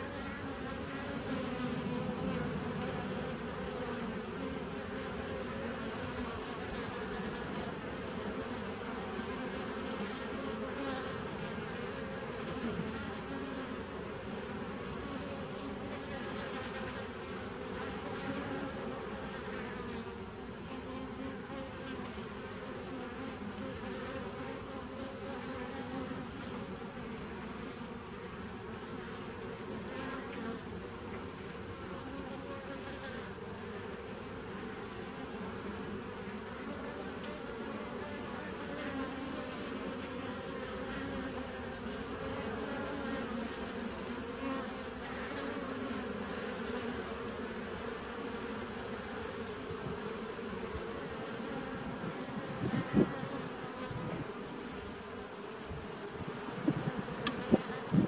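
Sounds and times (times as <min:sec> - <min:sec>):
honey bees buzzing: 0:00.0 - 0:58.0.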